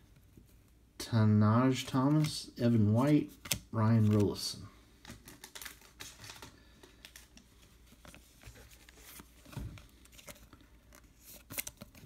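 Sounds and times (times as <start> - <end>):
cards flipping: 1.9 - 12.0.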